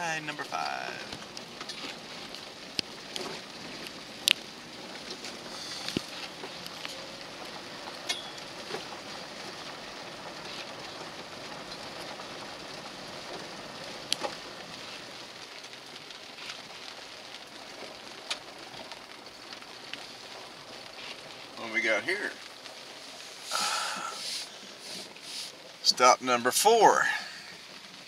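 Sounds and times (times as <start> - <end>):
car rolling on wet gravel: 0.0 - 28.0
rain hissing on car windshield: 0.0 - 28.0.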